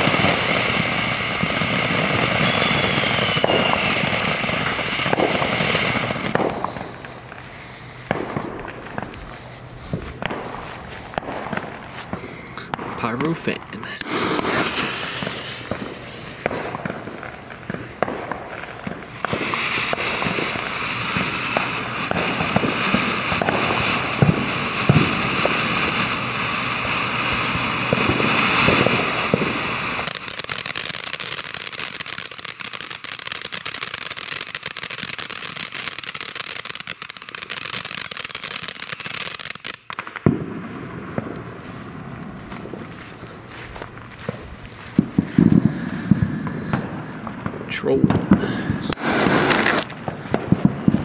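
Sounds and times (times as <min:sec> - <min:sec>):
firework crackling: 0:00.0 - 0:51.0
firework fountain hissing: 0:00.0 - 0:51.0.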